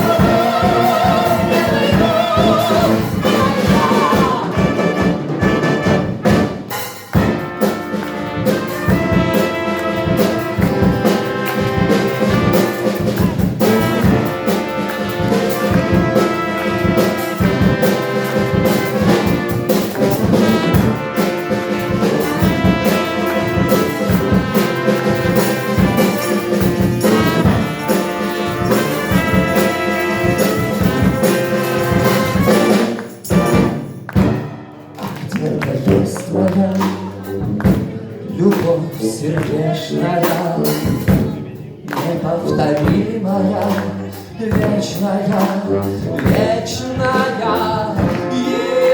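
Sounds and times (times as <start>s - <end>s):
brass playing pop melody: 0.0s - 37.9s, 38.5s - 41.1s, 42.2s - 48.9s
orchestral backing with beat: 0.0s - 48.9s.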